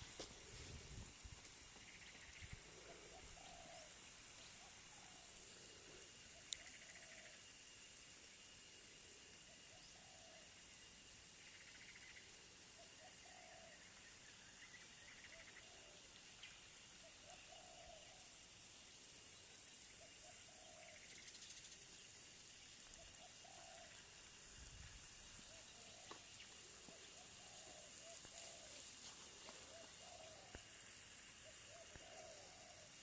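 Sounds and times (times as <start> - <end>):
faint low bird calls: 0.0 - 7.6, 9.4 - 10.8, 11.4 - 24.5, 25.1 - 33.0
faint steady hiss: 0.0 - 33.0.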